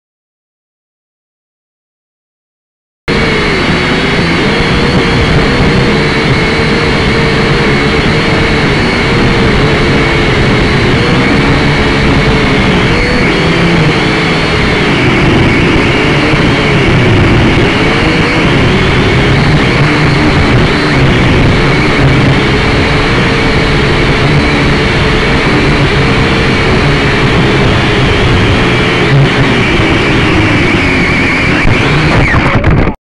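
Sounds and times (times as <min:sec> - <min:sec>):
drone propellers whining: 0:03.1 - 0:33.0.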